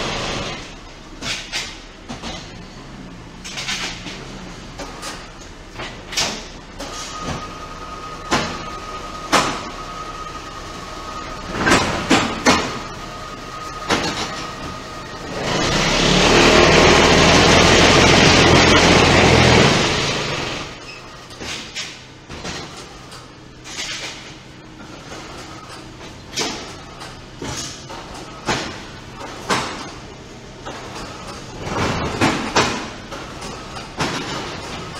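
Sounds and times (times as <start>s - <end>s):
machine running noise: 0.0s - 34.9s.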